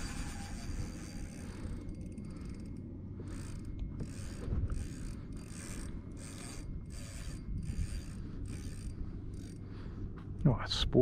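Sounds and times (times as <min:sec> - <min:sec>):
fishing reel mechanical bursts: 0:00.0 - 0:09.6
steady low rumble: 0:00.0 - 0:11.0.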